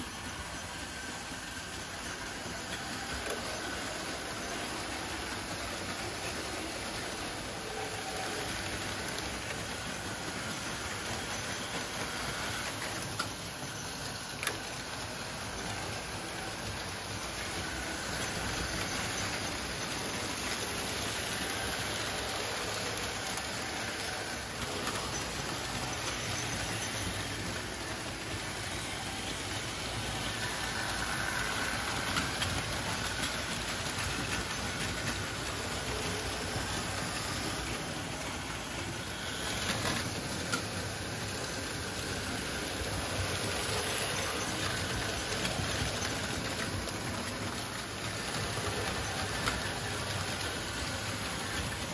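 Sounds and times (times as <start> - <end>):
model train motors whirring: 0.0 - 51.9.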